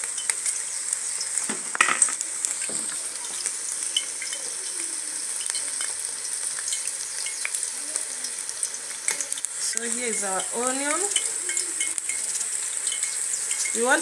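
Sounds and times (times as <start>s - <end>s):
oil sizzling in a wok: 0.0s - 14.0s.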